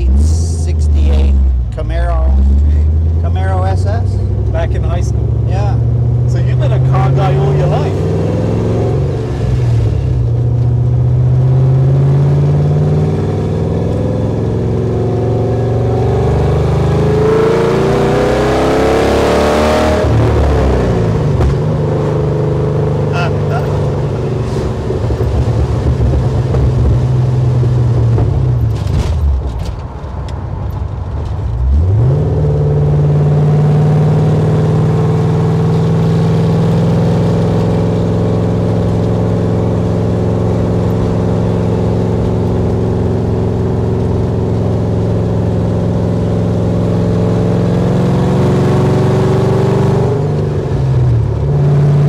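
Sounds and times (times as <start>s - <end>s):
car engine while driving: 0.0s - 52.0s.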